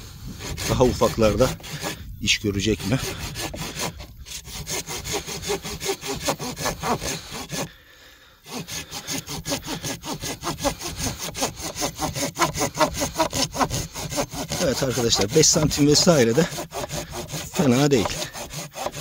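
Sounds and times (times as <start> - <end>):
pruning saw cutting branch: 0.3 - 7.7, 8.5 - 19.0.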